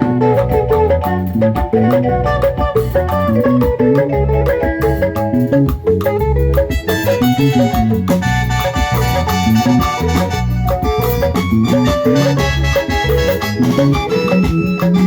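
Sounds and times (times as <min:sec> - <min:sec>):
bass guitar: 0:00.0 - 0:15.0
plucked guitar melody: 0:00.0 - 0:15.0
steady drum beat: 0:00.0 - 0:15.0.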